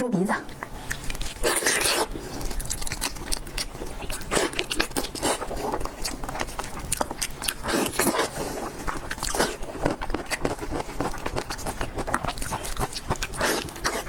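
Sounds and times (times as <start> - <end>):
person chewing crunchy food: 0.5 - 14.0.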